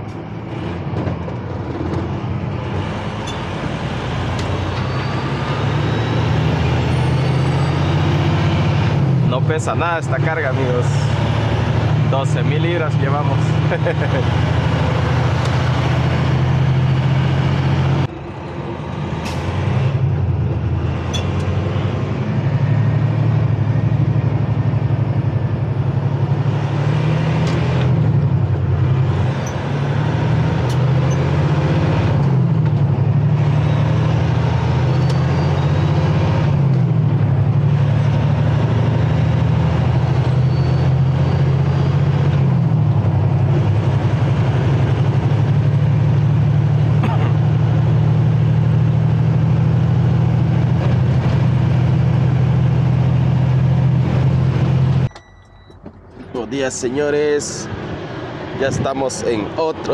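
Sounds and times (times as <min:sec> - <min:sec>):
truck diesel engine from cab: 0:00.0 - 0:59.9.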